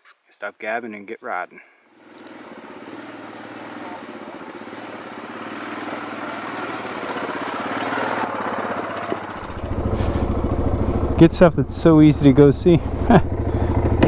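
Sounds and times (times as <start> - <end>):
atv engine pulling away: 1.9 - 14.0.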